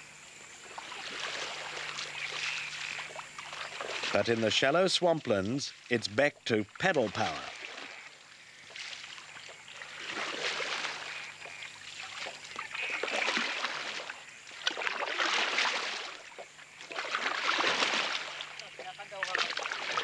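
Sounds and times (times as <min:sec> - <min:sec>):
paddles splashing in water: 0:00.6 - 0:20.0.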